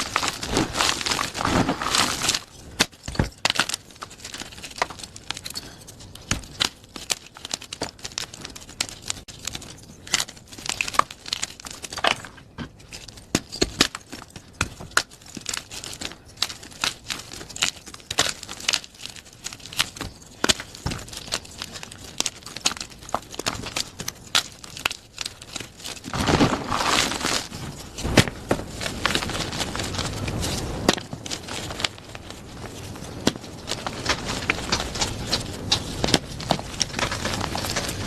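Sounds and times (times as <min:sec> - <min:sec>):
chalk being crushed: 0:00.0 - 0:38.0.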